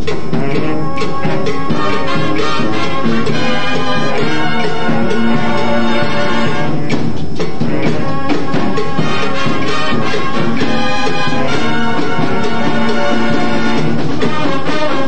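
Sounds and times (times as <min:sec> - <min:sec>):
marching band brass: 0:00.0 - 0:15.0.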